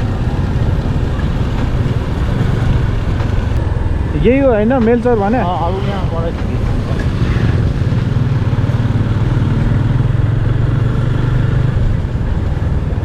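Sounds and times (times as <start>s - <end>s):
motorcycle engine running: 0.0s - 13.0s
road and wind rumble: 0.0s - 13.0s.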